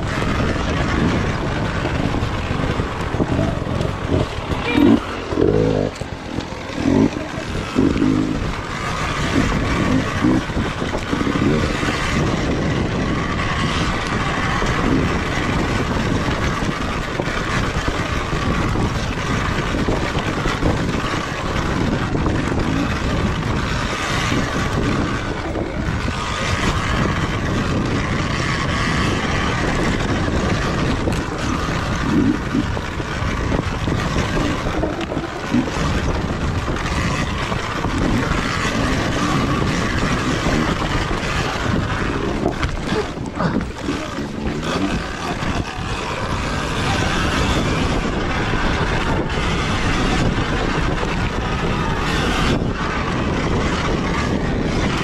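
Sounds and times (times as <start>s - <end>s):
electric dirt bike drivetrain: 0.0s - 55.0s
tyres on dirt and rock: 0.0s - 55.0s
wind on microphone: 0.0s - 55.0s.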